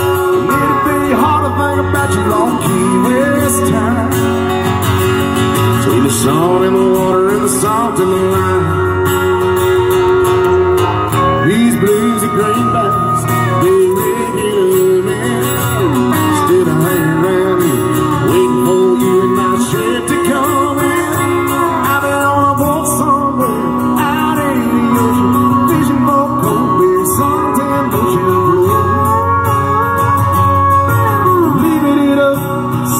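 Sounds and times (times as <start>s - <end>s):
country band music over speakers: 0.0s - 32.9s
keyboard: 0.0s - 32.9s
strummed acoustic guitar: 0.0s - 32.9s.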